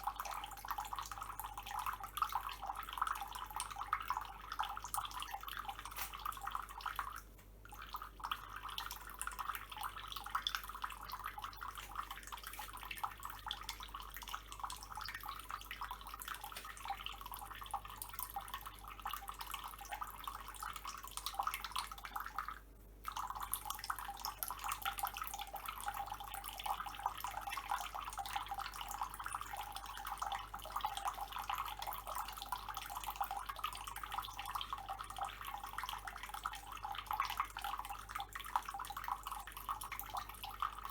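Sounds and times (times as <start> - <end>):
water running from a tap: 0.0 - 22.5, 23.1 - 40.9.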